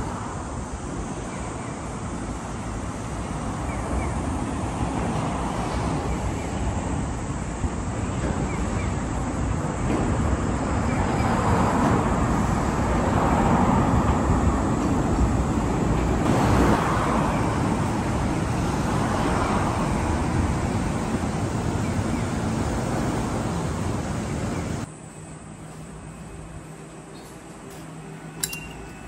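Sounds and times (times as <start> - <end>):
suspended monorail train passing: 0.0 - 29.0.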